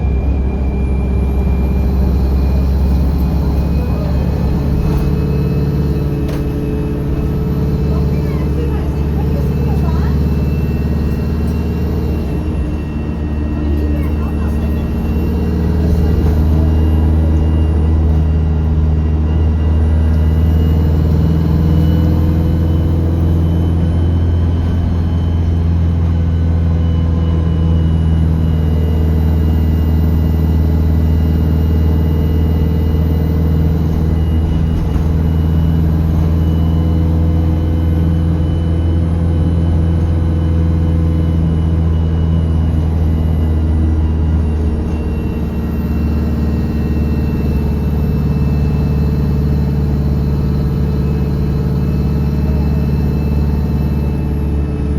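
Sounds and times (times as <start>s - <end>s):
bus diesel engine drone: 0.0s - 54.9s
road rumble: 0.0s - 54.9s.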